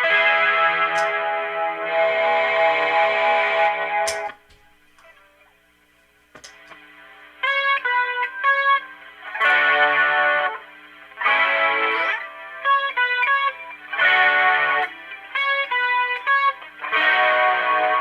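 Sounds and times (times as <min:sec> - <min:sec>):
distorted electric guitar: 0:00.0 - 0:05.6, 0:06.4 - 0:18.0.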